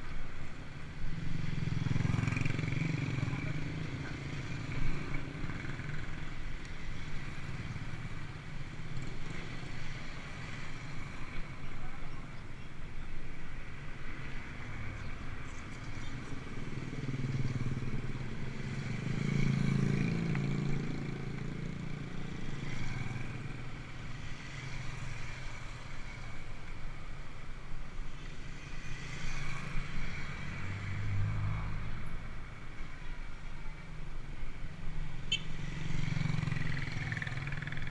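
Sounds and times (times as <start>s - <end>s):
vehicle engines humming: 0.0s - 37.9s.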